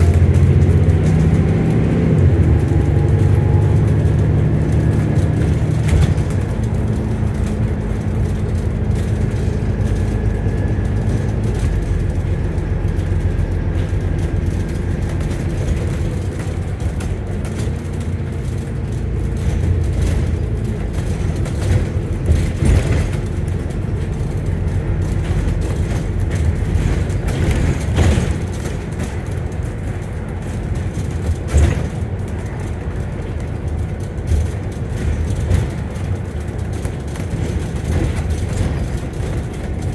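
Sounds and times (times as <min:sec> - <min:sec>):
bus body knocks and rattles: 0:00.0 - 0:39.9
bus engine and road rumble: 0:00.0 - 0:39.9.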